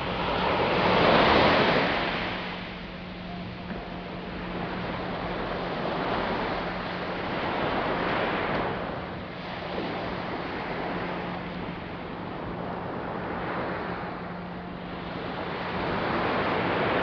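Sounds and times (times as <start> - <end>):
surf washing onto beach: 0.0 - 17.0
wind on microphone: 0.0 - 17.0.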